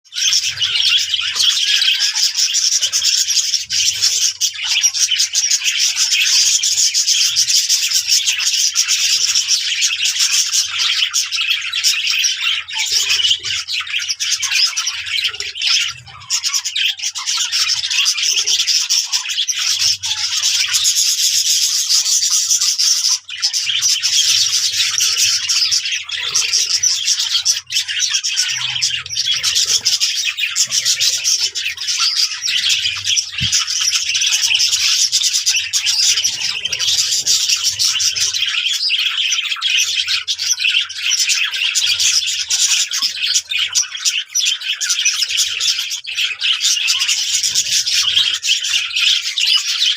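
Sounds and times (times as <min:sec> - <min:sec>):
budgerigars chattering: 0:00.1 - 0:49.9.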